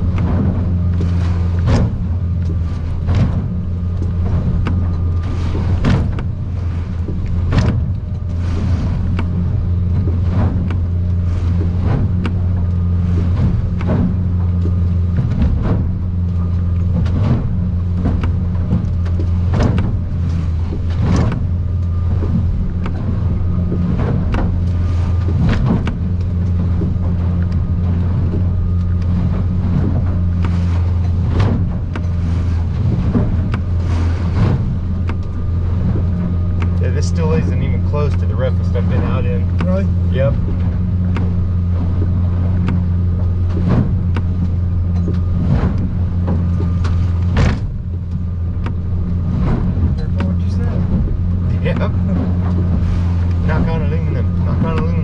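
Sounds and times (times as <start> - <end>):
boat hull slapping waves: 0.0 - 55.0
outboard engine droning: 0.0 - 55.0.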